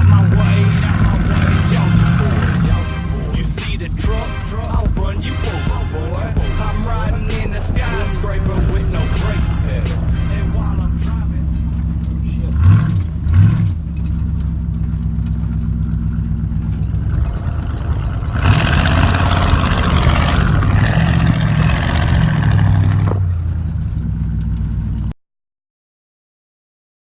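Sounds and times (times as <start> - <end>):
pickup truck engine revving: 0.0 - 24.5
tyres spinning through mud: 0.0 - 25.1.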